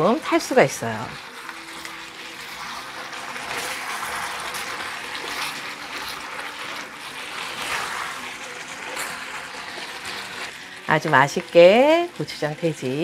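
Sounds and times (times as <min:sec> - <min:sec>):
food sizzling in a pan: 0:00.0 - 0:13.0
wooden spatulas stirring: 0:00.0 - 0:13.0.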